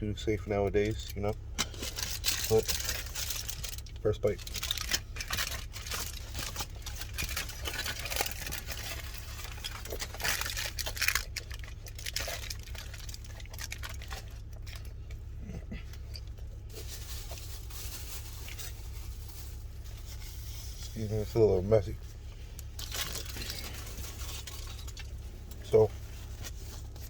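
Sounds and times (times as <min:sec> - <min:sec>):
steady low hum: 0:00.0 - 0:27.0
wrapper crinkling: 0:01.6 - 0:15.0, 0:16.1 - 0:20.8, 0:22.6 - 0:27.0.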